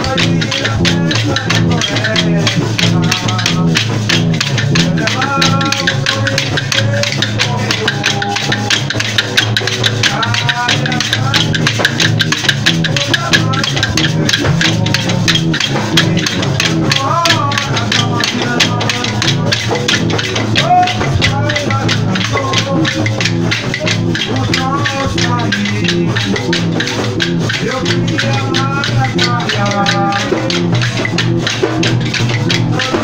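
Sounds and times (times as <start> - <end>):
low drumming: 0.0 - 33.0
rattles shaking: 0.0 - 33.0
wooden clappers clacking: 0.0 - 33.0.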